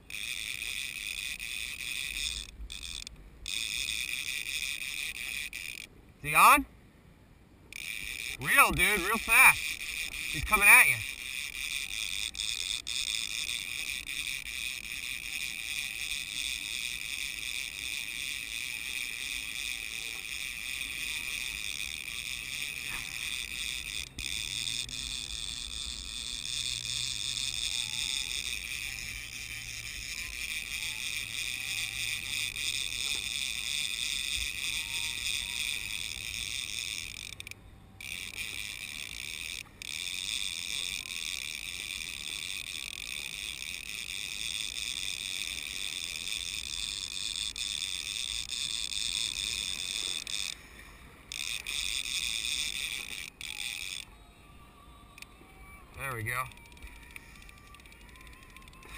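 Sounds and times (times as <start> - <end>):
fishing reel drag buzzing: 0.0 - 6.6, 7.7 - 58.9.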